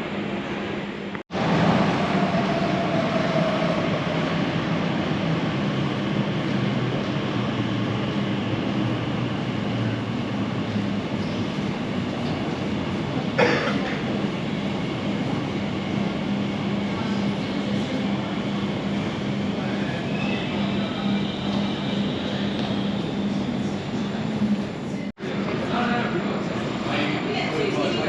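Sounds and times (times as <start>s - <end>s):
underground train rumbling: 0.0s - 28.0s.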